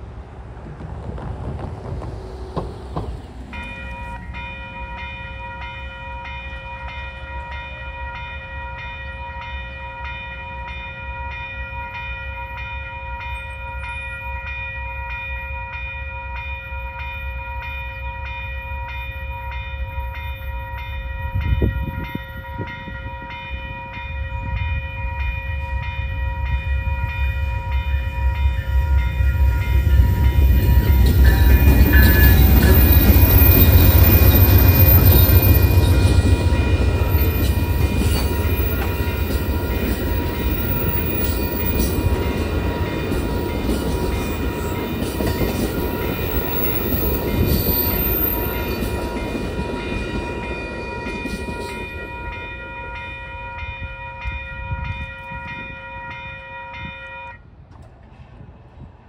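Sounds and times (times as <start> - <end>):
train rumbling past: 0.0 - 59.0
railroad crossing bell ringing: 2.6 - 57.5.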